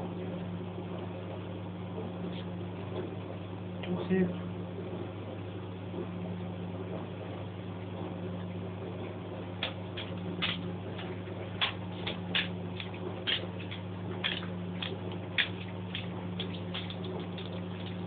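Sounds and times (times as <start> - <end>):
engine low hum: 0.0 - 18.0.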